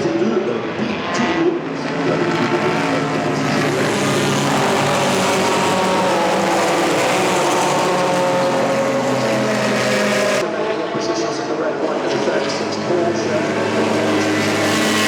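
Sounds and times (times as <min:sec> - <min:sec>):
racing car engine: 0:00.0 - 0:15.0.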